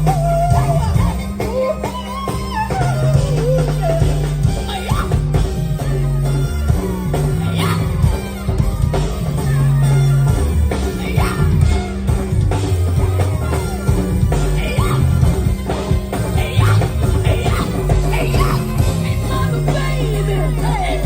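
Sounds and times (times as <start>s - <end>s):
song with vocals bass and beat: 0.0s - 21.0s.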